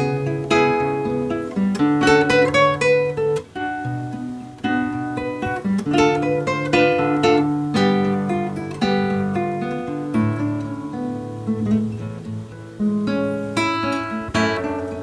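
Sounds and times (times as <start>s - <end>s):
fingerstyle classical guitar: 0.0s - 15.0s.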